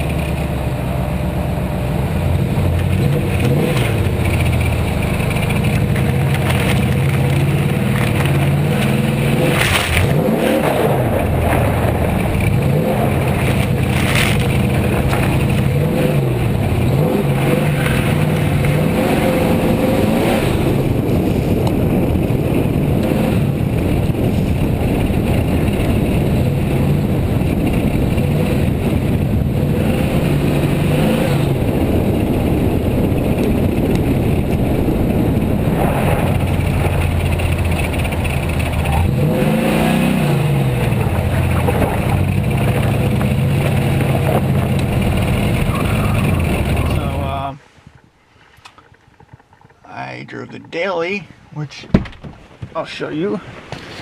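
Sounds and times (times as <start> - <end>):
car engine revving: 0.0 - 47.6.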